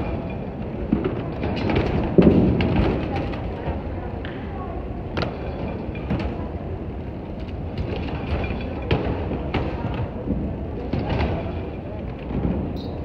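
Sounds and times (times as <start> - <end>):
baggage carousel running: 0.0 - 13.0.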